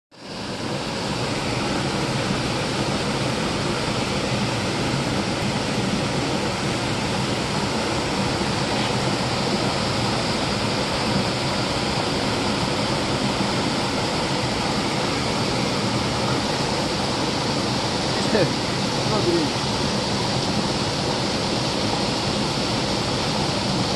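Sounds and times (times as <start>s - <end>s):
stream cascading over rocks: 0.2s - 23.9s.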